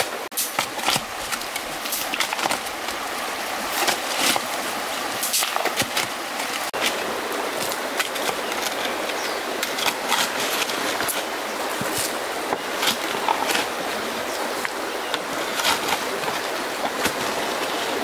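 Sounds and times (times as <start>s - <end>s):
river running over rocks: 0.0s - 18.0s.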